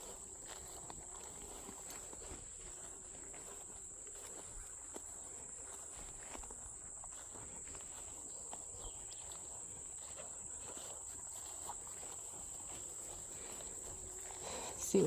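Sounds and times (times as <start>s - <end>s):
faint footsteps on ground: 0.0s - 15.0s
insects trilling: 0.0s - 15.0s.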